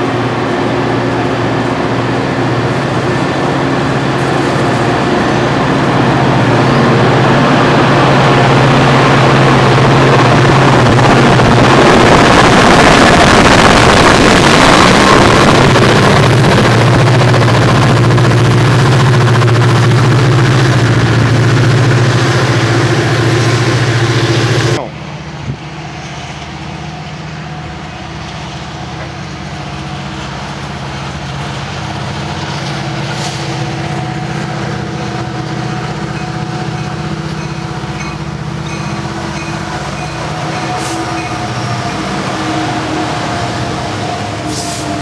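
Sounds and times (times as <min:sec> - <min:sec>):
train engine drone: 0:00.0 - 0:45.0
train wheel and rail noise: 0:00.0 - 0:45.0.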